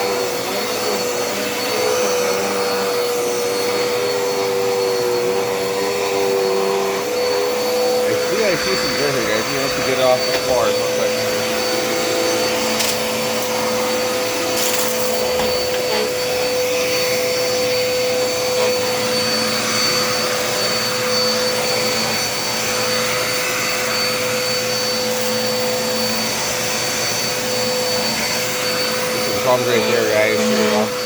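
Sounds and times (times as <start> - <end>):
vacuum cleaner motor whine: 0.0 - 31.0.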